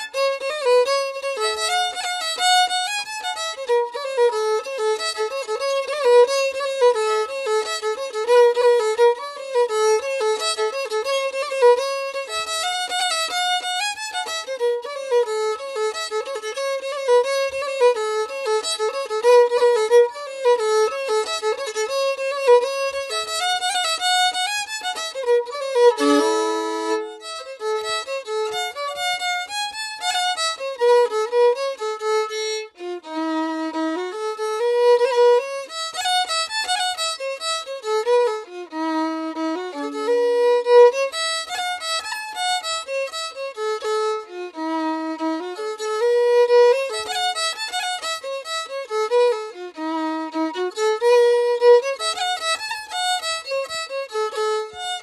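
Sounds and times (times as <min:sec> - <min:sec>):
violin melody: 0:00.0 - 0:55.0.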